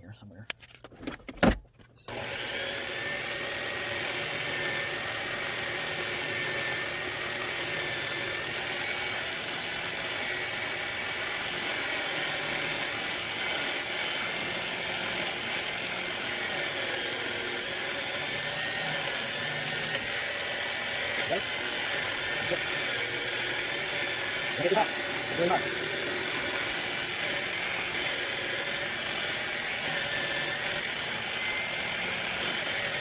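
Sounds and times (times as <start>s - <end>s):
electric motor whine: 2.1s - 33.0s.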